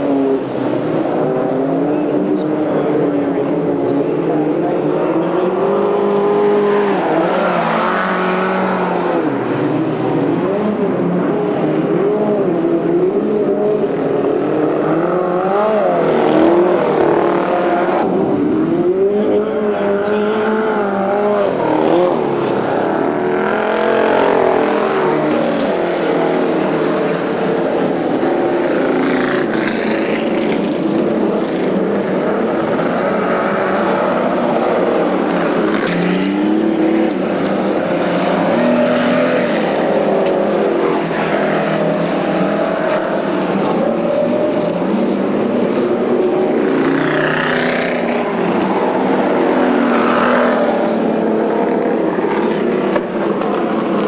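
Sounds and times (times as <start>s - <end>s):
race car engines revving: 0.0s - 54.0s.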